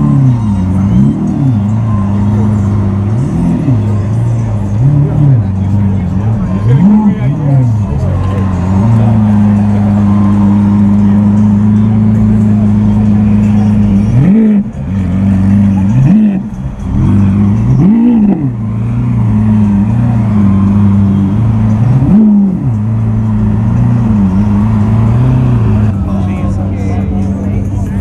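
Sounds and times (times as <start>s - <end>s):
car engine running low: 0.0s - 28.0s.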